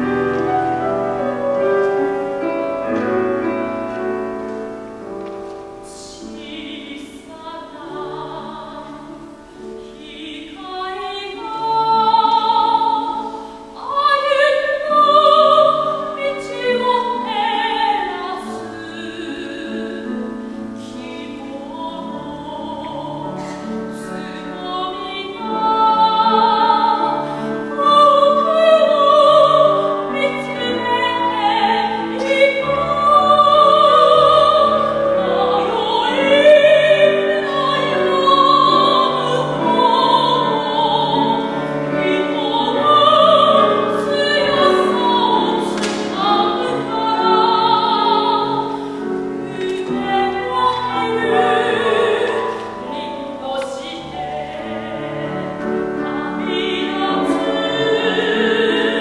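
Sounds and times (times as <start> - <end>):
grand piano: 0.0 - 59.0
soprano singing operatically: 0.0 - 59.0.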